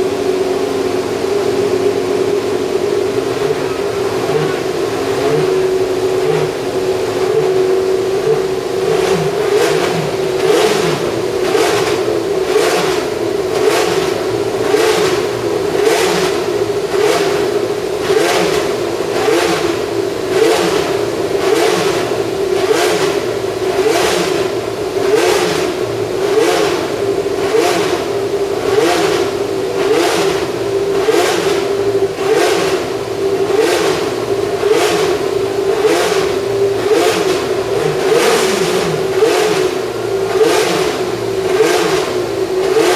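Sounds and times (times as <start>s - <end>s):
racing car engine at high revs: 0.0s - 42.9s.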